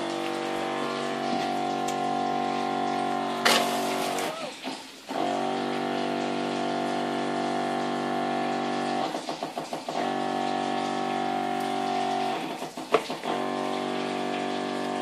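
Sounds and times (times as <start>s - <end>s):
electric pump buzzing hum: 0.0s - 15.0s
pump rattle: 0.0s - 15.0s.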